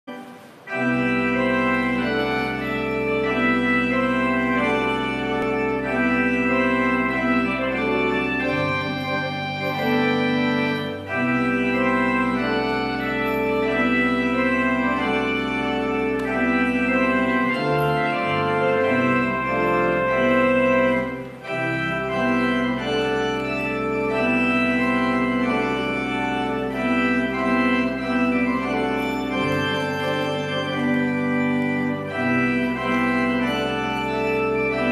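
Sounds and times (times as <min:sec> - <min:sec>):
organ playing slow chords: 0:00.1 - 0:34.9.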